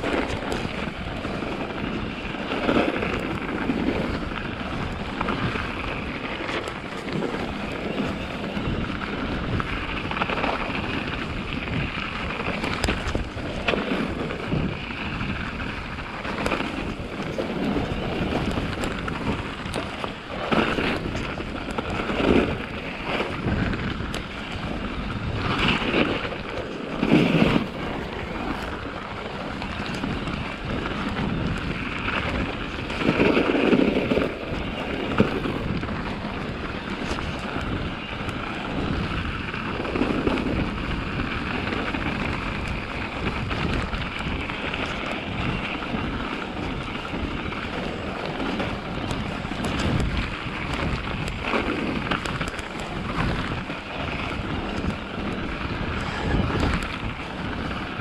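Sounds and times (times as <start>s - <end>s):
bike jolting over bumps: 0.0s - 58.0s
bike tyres rolling over snow: 0.0s - 58.0s
wind on microphone: 0.0s - 58.0s.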